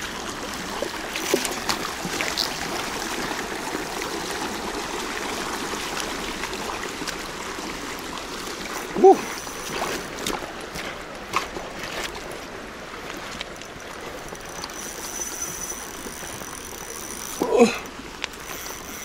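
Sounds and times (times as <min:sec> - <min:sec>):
river flowing over stones: 0:00.0 - 0:19.0.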